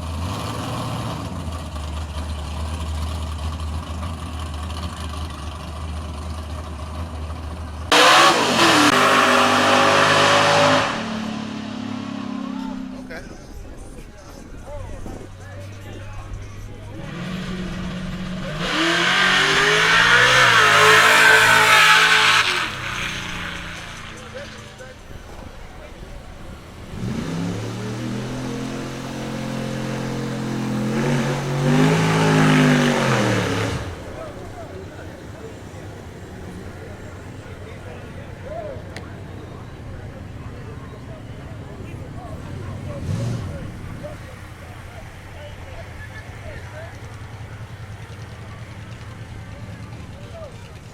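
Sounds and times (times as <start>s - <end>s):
drag car engine revving: 0.0s - 50.9s.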